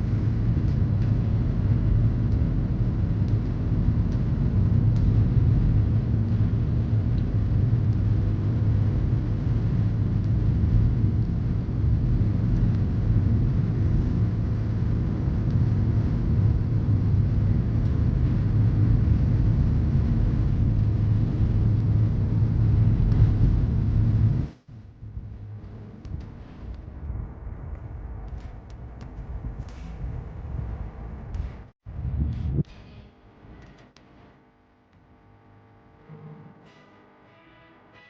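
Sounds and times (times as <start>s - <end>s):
constant low drone: 0.0s - 33.9s.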